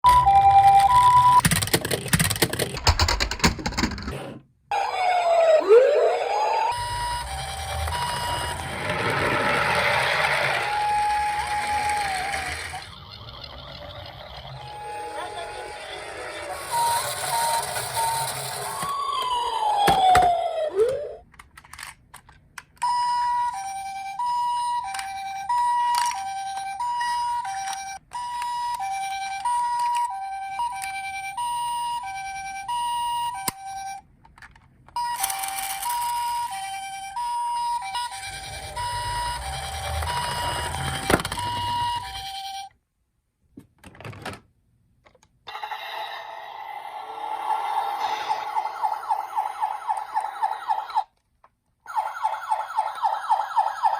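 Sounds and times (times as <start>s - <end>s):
two-tone ambulance siren: 0.0s - 1.4s, 4.7s - 21.2s, 22.8s - 34.0s, 35.0s - 42.7s, 45.5s - 51.1s, 51.9s - 53.9s.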